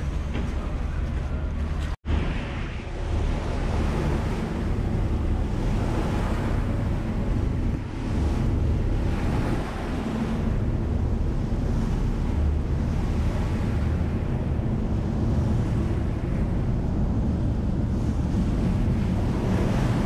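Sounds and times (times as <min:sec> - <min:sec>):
ferry engine drone: 0:00.0 - 0:20.0
water rushing past hull: 0:00.0 - 0:20.0
wind on microphone: 0:00.0 - 0:20.0.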